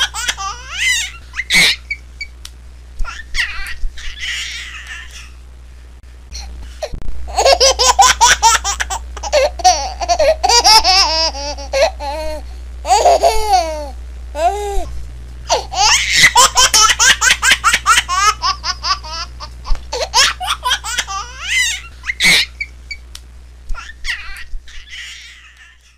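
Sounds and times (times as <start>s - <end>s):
baby laughing: 0.0s - 2.0s, 3.0s - 5.4s, 7.3s - 14.9s, 15.5s - 22.7s, 23.7s - 25.9s.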